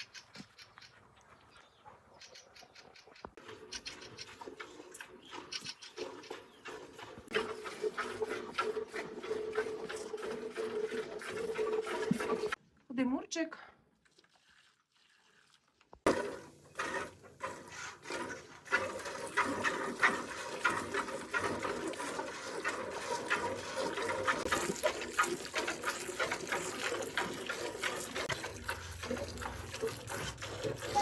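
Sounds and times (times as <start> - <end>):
milk squirting into a pail: 3.4 - 12.6, 14.0 - 31.0.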